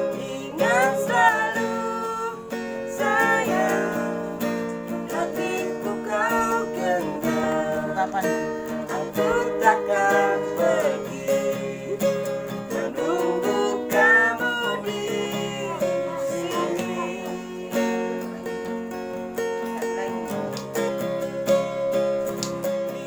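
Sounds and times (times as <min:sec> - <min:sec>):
acoustic guitar ballad: 0:00.0 - 0:23.0.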